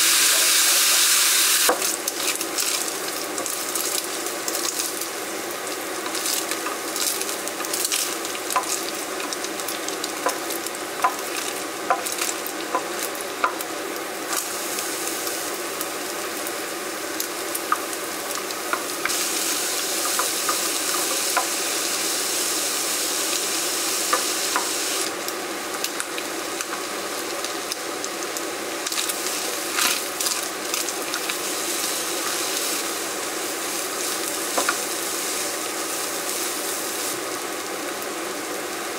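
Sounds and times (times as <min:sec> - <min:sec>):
meat sizzling in a frying pan: 0:00.0 - 0:38.9
vegetables frying with bright sizzle: 0:00.0 - 0:38.9.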